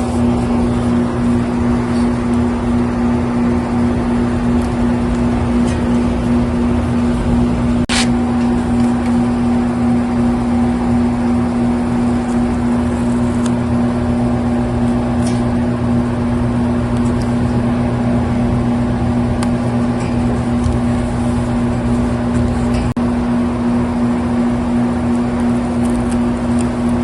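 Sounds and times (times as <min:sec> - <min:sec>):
air conditioner unit humming: 0:00.0 - 0:27.0.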